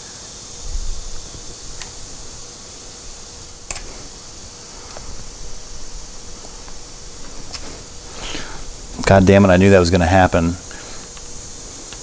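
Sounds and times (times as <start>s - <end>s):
faint hum: 0.0s - 12.0s
fan hiss: 0.0s - 12.0s.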